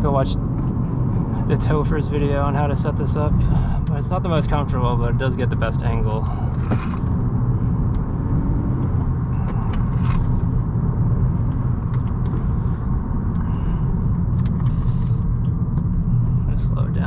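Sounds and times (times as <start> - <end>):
car interior engine rumble: 0.0 - 17.0.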